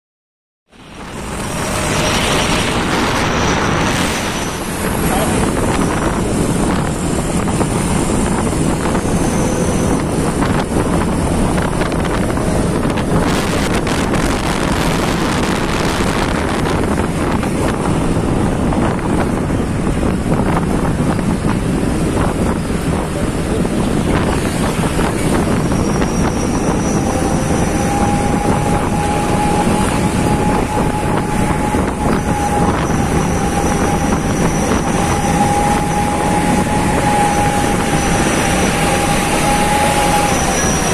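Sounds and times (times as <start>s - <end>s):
truck engine and road noise: 0.7s - 40.9s
wind over microphone: 0.7s - 40.9s.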